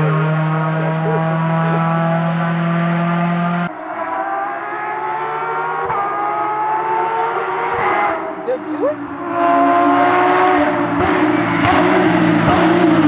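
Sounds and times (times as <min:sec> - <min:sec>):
car engine accelerating: 0:00.0 - 0:13.0
rally car engine at high revs: 0:00.0 - 0:13.0.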